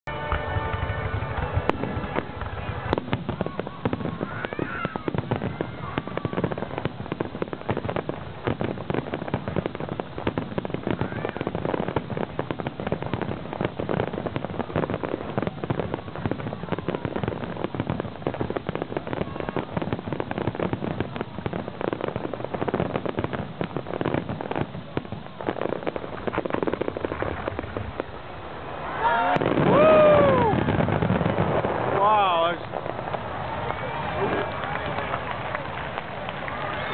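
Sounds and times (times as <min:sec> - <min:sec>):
fireworks popping and crackling: 0:00.1 - 0:36.9.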